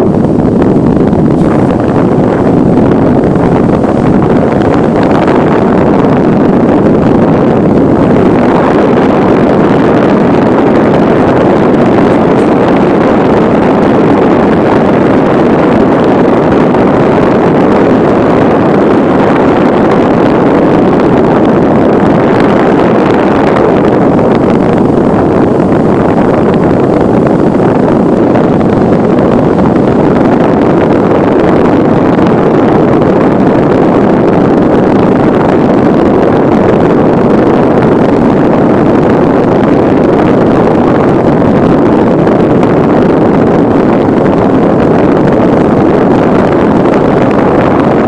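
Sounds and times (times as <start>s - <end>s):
strong wind roaring on microphone: 0.0s - 48.0s.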